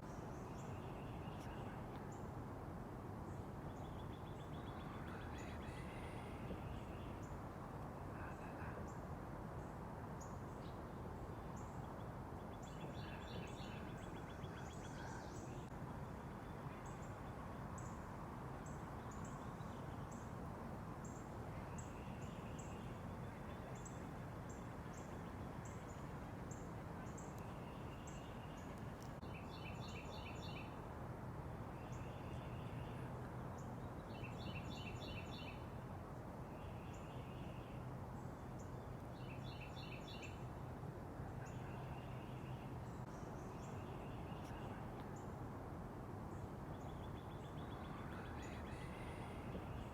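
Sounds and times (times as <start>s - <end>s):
songbirds chirping: 0.0s - 2.4s, 3.1s - 49.9s.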